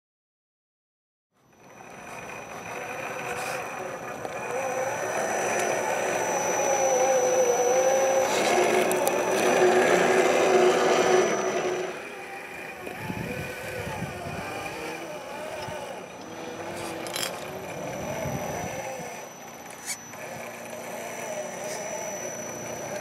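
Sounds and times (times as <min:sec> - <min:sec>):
electric motor whining: 0:01.4 - 0:23.0.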